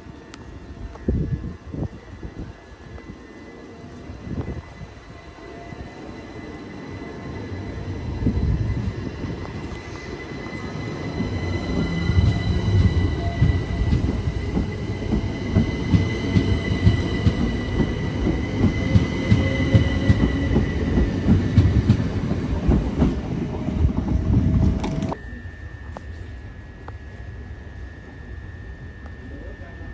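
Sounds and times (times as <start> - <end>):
train rumbling past: 0.0 - 29.9.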